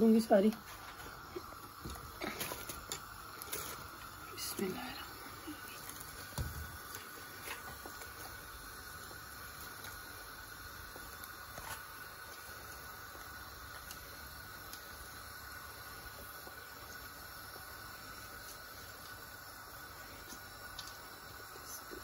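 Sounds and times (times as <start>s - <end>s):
stove burner hissing: 0.0s - 22.0s.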